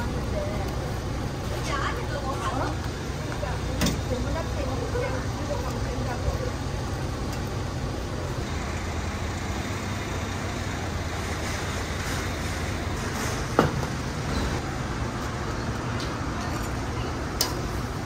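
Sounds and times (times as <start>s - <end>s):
busy street market din: 0.0s - 18.0s.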